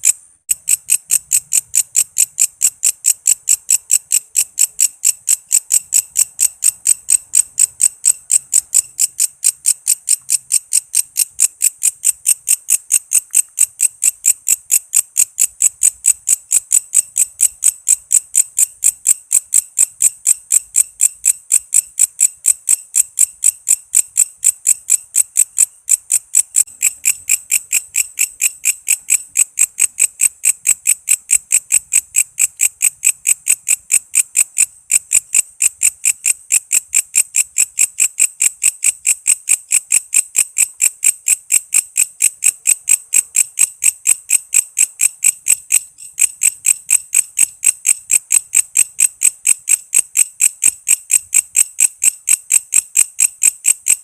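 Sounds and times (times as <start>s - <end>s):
katydid chirping: 0.0s - 50.5s.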